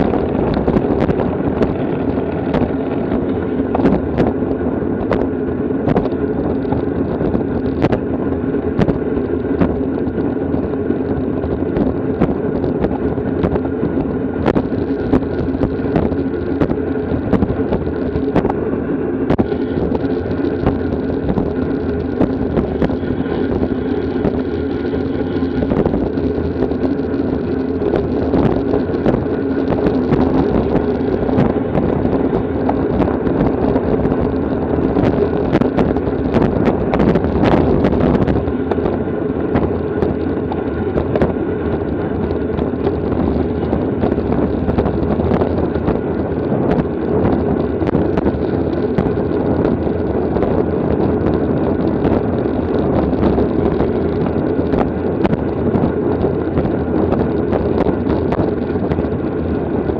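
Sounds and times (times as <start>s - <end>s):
wind rumbling over microphone: 0.0s - 59.9s.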